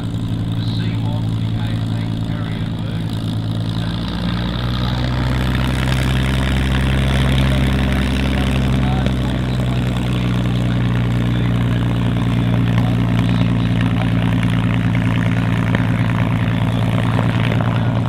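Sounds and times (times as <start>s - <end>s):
aircraft engine idling: 0.0s - 18.0s.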